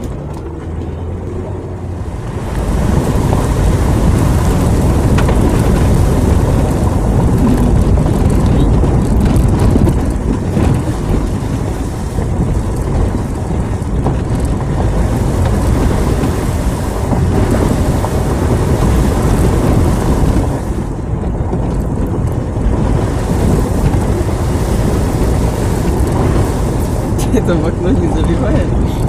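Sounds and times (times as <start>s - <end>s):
tyres on muddy track: 0.0s - 29.0s
vehicle engine: 0.0s - 29.0s.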